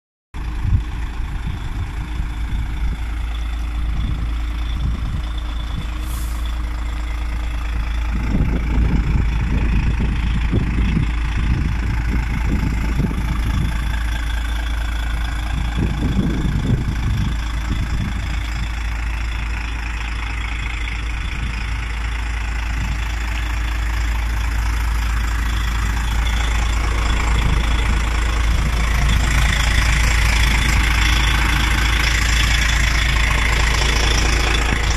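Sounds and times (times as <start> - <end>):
diesel truck engine idling: 0.4 - 34.9.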